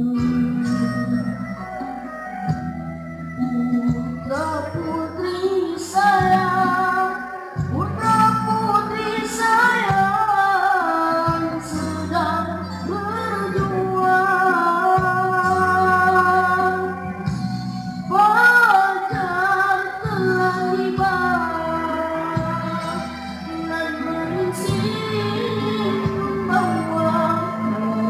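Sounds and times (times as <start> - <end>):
amplified instrumental backing music: 0.0 - 28.0
boy singing into microphone: 0.0 - 28.0.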